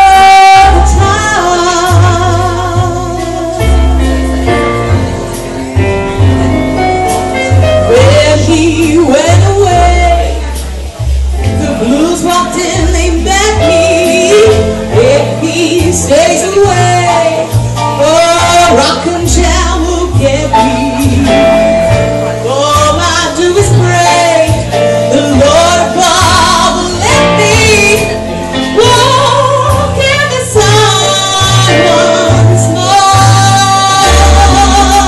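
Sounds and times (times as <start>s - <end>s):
band accompaniment: 0.0s - 35.0s
bass line: 0.0s - 35.0s
woman singing jazz: 0.0s - 35.0s.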